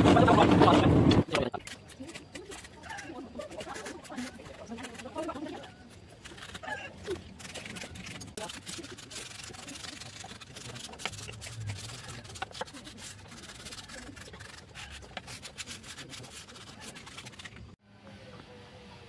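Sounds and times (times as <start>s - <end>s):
sandpaper rubbing on wood: 1.7s - 17.8s.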